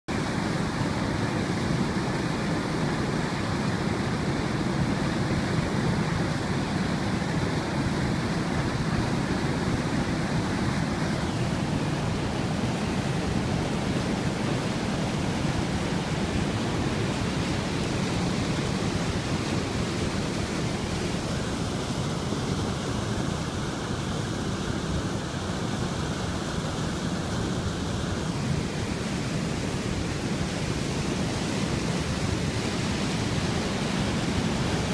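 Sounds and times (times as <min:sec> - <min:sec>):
water rushing over a weir: 0:00.1 - 0:34.9.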